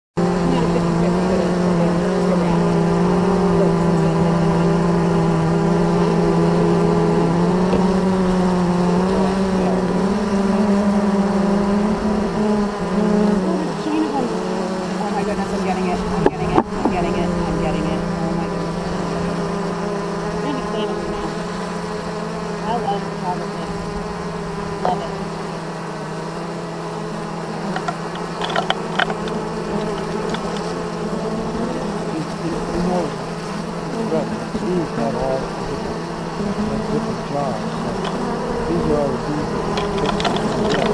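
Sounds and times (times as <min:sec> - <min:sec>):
honeybees buzzing: 0:00.2 - 0:40.9.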